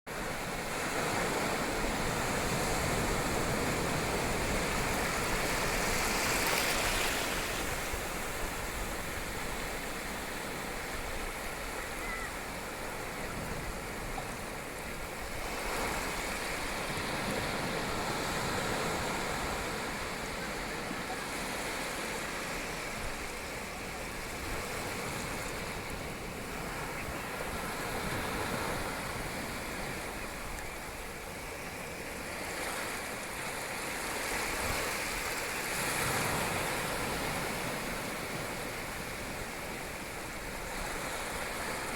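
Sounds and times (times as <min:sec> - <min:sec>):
ocean waves washing onto beach: 0:00.1 - 0:41.9.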